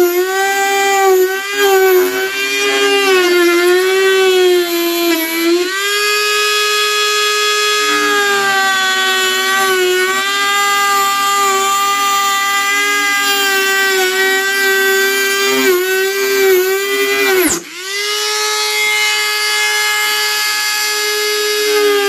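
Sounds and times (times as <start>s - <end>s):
rotary tool whining cutting plastic: 0.0s - 22.0s.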